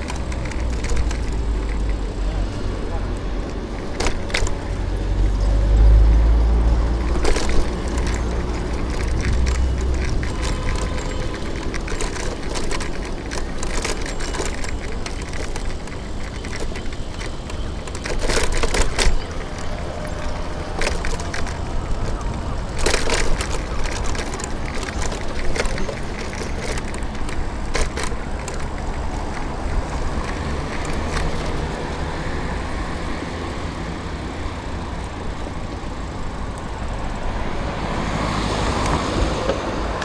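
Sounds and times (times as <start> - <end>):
city street traffic: 0.0 - 40.0
short clicks and rattles: 0.0 - 40.0.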